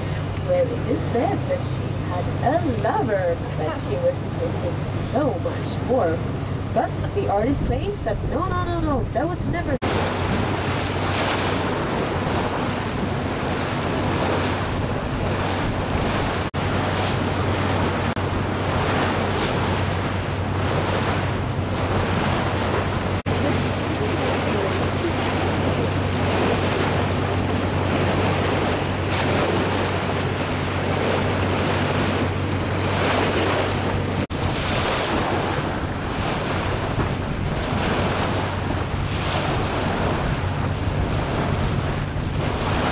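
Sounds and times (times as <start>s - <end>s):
boat engine humming: 0.0s - 42.9s
water rushing against hull: 0.0s - 42.9s
wind buffeting microphone: 0.0s - 42.9s.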